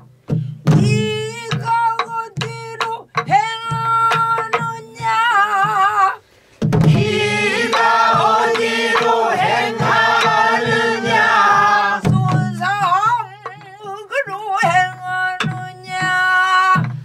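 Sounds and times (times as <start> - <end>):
wooden stick striking barrel drum: 0.0 - 5.9, 6.6 - 17.0
folk singing with wavering vibrato: 0.8 - 6.2, 6.9 - 17.0.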